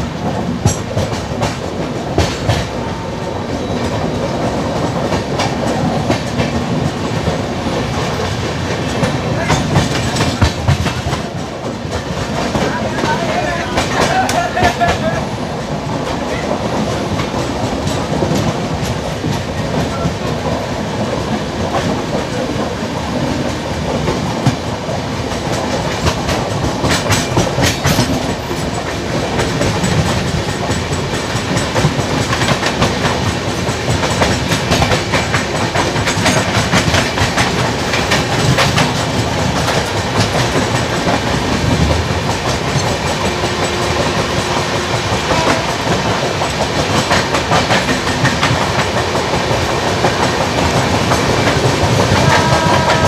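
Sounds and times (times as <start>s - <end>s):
train rushing rumble: 0.0s - 53.0s.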